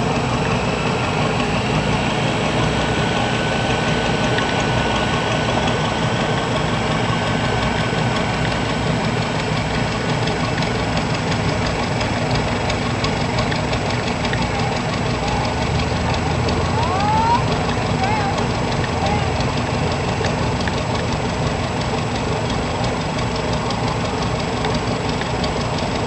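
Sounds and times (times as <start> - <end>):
atv engine idling: 0.0 - 26.0.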